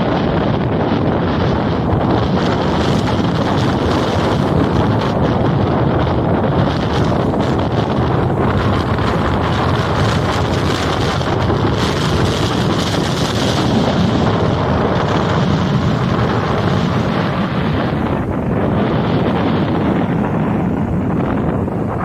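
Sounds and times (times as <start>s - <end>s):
sea surf breaking: 0.0s - 22.0s
wind blowing across microphone: 0.0s - 22.0s.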